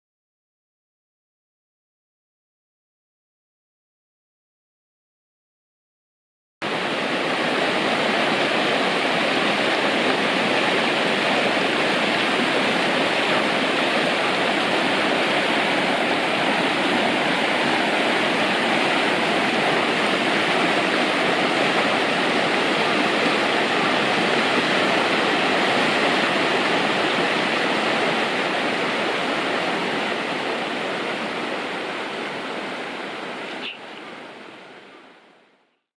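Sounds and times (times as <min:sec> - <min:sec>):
stream rushing over rocks: 0:06.6 - 0:35.6.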